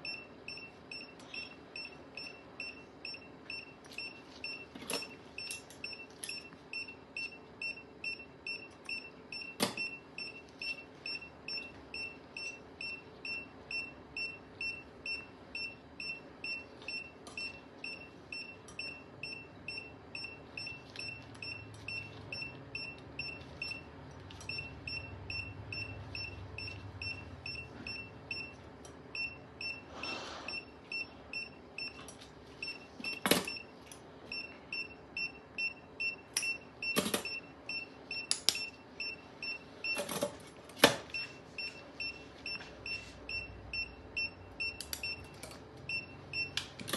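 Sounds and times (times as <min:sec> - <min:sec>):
patient monitor beeping: 0:00.0 - 0:46.9.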